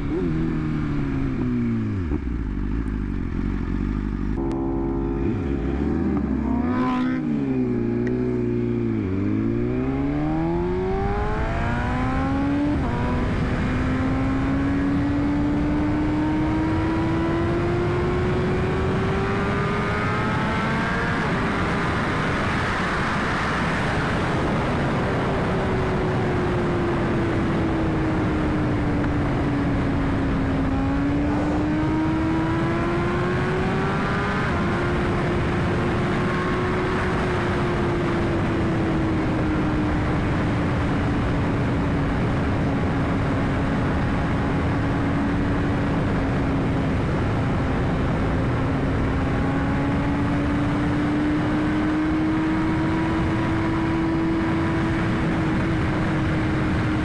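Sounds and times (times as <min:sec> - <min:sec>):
motorcycle engine revving: 0:00.0 - 0:57.0
wind rush: 0:05.2 - 0:57.0.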